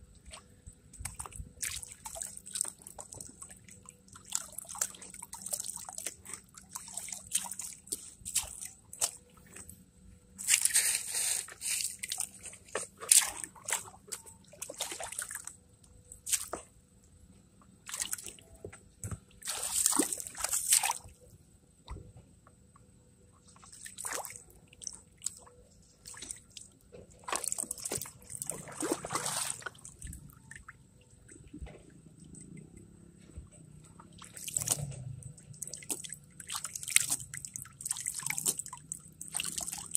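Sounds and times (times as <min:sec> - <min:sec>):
water sloshing in a plastic pan: 0:00.1 - 0:09.8, 0:10.4 - 0:16.8, 0:17.6 - 0:22.2, 0:23.4 - 0:39.9.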